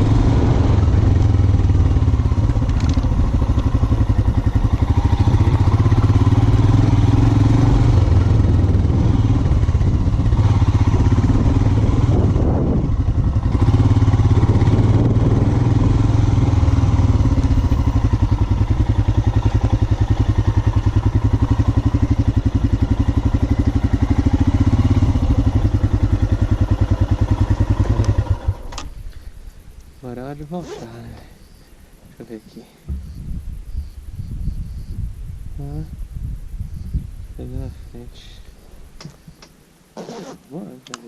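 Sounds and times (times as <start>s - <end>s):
motorcycle engine running at low revs: 0.0s - 31.6s, 32.9s - 38.3s.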